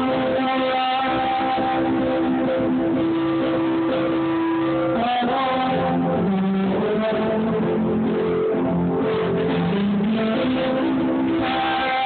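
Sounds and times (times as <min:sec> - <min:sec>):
muffled live band with electric guitar: 0:00.0 - 0:12.0.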